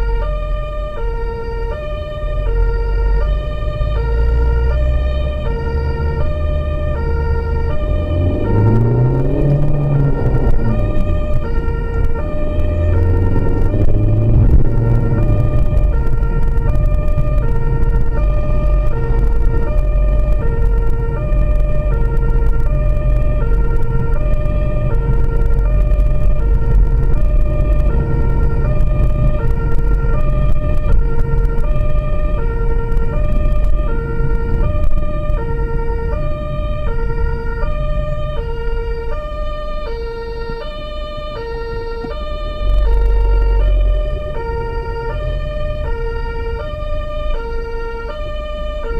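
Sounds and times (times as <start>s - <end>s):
engine and road rumble: 0.0s - 48.9s
two-tone emergency siren: 0.0s - 48.9s.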